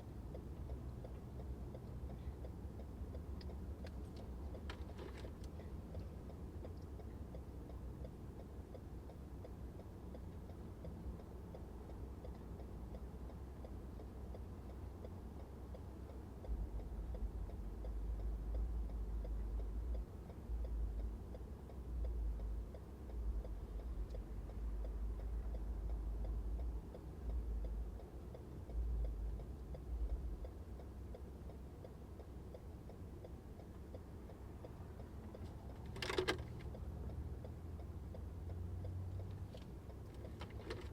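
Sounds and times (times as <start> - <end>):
road and engine rumble: 0.0 - 40.9
turn signal ticking: 0.0 - 40.9.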